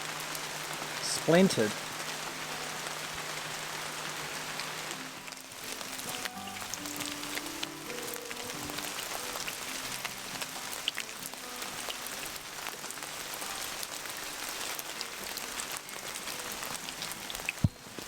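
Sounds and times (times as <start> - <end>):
heavy rain falling: 0.0 - 18.0
raindrops striking close by: 0.0 - 18.0.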